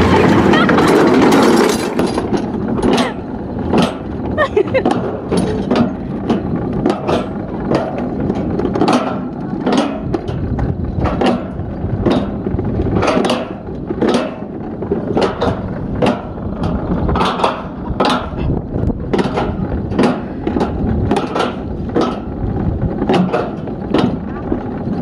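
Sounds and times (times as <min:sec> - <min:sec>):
sharp clacks over joints: 0:00.0 - 0:25.0
sled rumbling in steel chute: 0:00.0 - 0:25.0.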